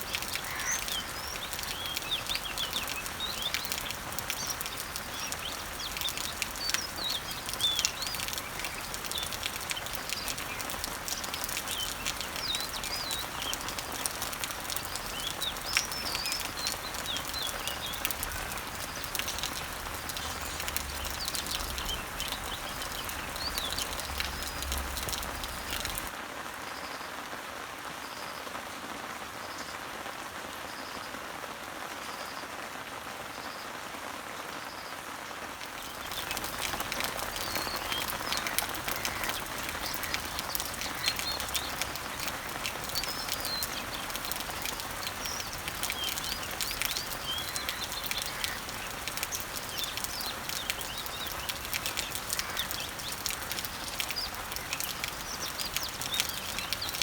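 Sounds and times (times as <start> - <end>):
birds chirping: 0.0 - 26.1, 35.6 - 57.0
rain pattering on leaves: 0.0 - 57.0.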